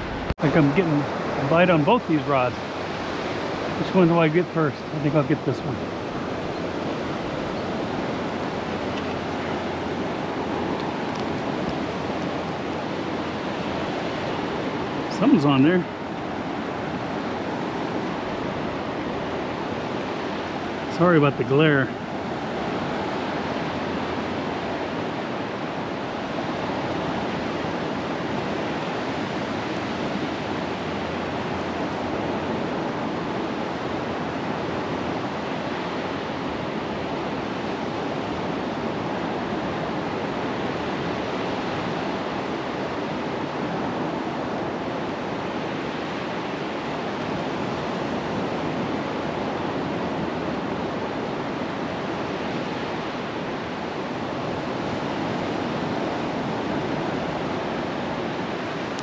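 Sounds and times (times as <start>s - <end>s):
surf breaking on beach: 0.0s - 59.0s.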